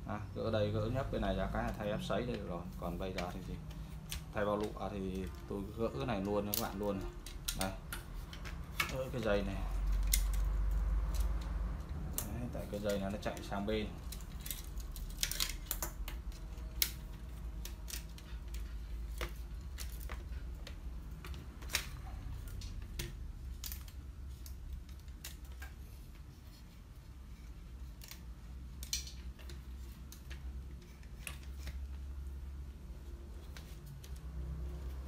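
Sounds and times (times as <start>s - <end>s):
plastic and metal parts clacking: 1.4s - 32.4s.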